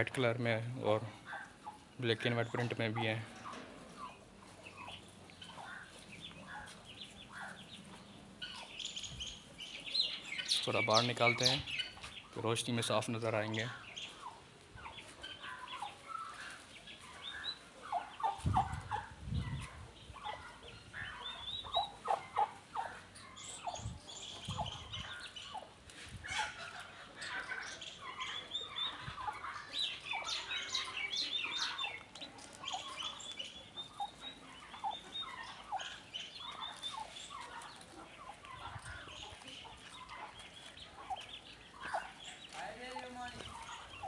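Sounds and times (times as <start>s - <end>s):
turkey hen calling: 0.0s - 44.0s
turkey poults peeping: 0.0s - 44.0s.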